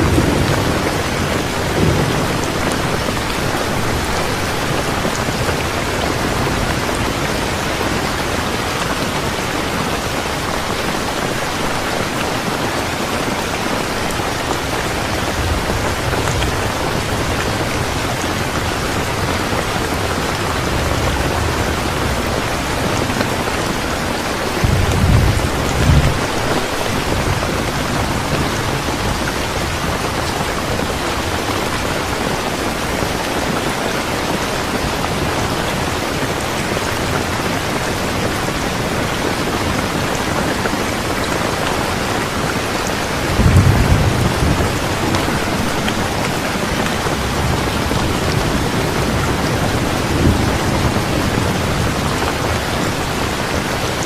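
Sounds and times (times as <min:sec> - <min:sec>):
steady rain: 0:00.0 - 0:54.0
thunder rumbles: 0:00.0 - 0:54.0.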